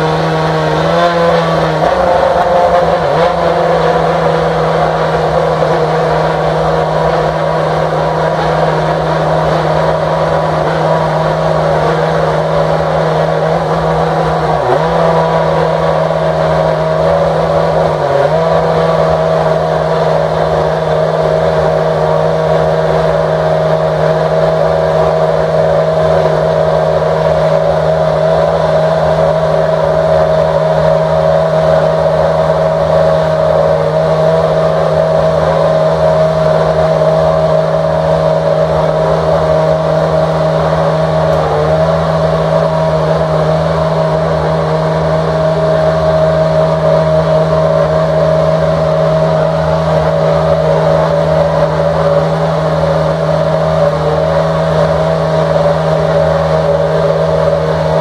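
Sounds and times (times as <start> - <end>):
racing car engine idling: 0.0 - 58.0.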